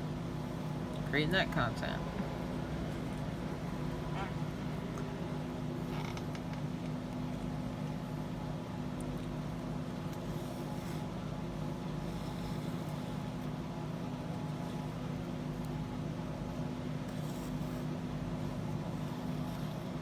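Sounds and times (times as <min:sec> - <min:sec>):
fan running with low hum: 0:00.0 - 0:20.0.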